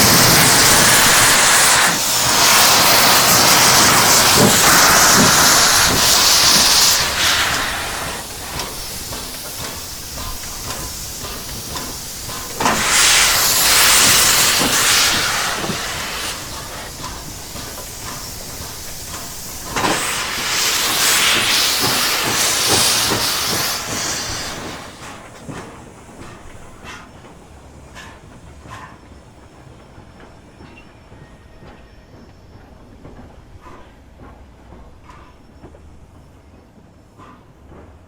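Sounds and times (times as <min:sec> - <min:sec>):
steam locomotive venting steam: 0:00.0 - 0:38.0.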